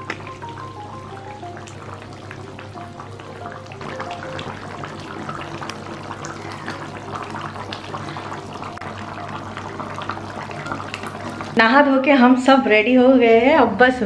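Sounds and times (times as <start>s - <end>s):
curry bubbling and popping: 0.0s - 12.6s.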